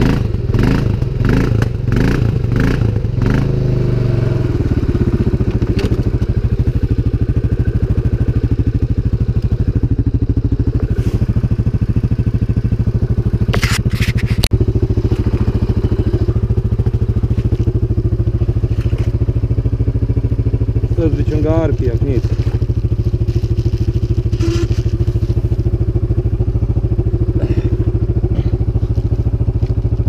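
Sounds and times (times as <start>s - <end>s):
engine running with even thrum: 0.0s - 30.0s.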